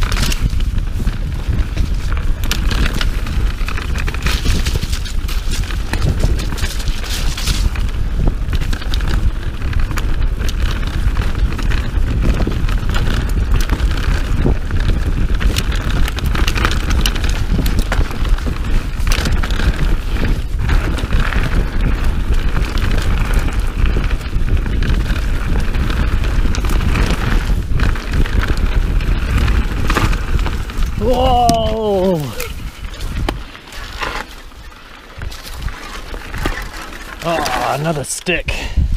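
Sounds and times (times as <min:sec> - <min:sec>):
bike tyres crunching over dirt: 0:00.0 - 0:38.9
wind buffeting microphone: 0:00.0 - 0:38.9.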